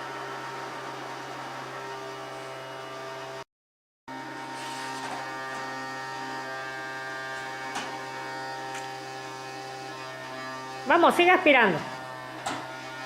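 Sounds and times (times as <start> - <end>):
vacuum cleaner motor droning: 0.0 - 3.5, 4.1 - 13.0.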